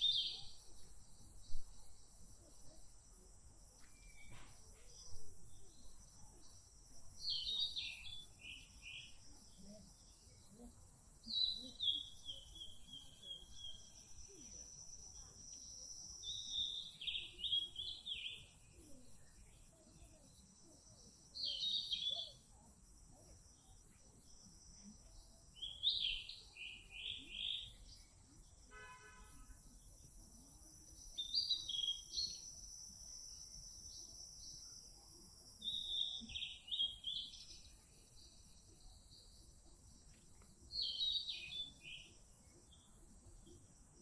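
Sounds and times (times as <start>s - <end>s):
songbird chirping: 0.0s - 44.0s.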